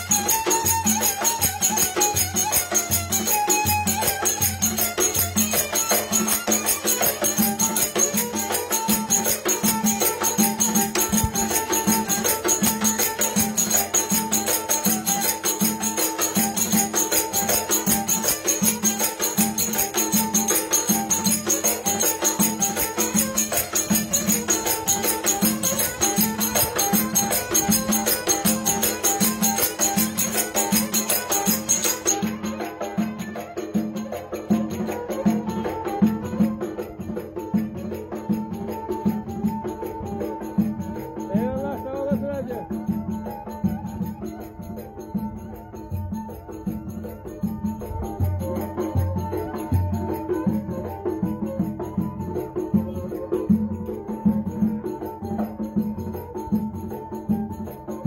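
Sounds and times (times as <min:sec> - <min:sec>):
bowed fiddle playing lively tune: 0:00.0 - 0:58.0
drum beating steady rhythm: 0:00.0 - 0:58.0.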